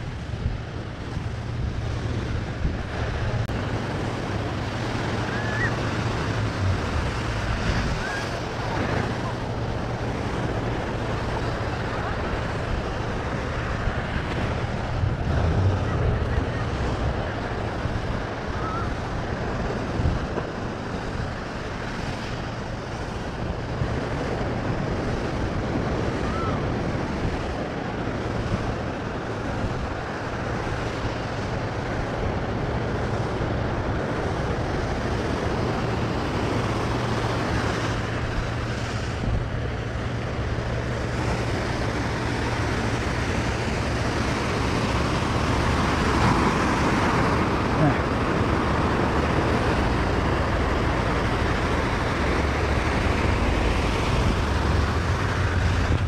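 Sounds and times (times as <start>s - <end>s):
ocean surf breaking on beach: 0.0s - 56.0s
wind noise on microphone: 0.0s - 56.0s.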